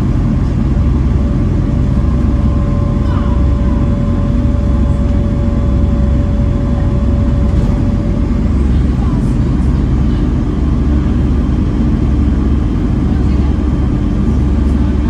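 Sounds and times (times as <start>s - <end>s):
high whine: 0.0s - 12.8s
bus diesel engine rumble: 0.0s - 15.0s.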